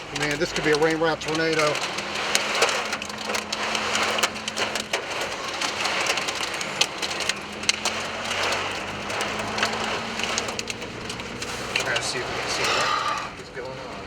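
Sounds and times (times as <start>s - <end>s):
hailstones cracking on car: 0.0s - 14.0s
rain pattering on car roof: 0.0s - 14.0s.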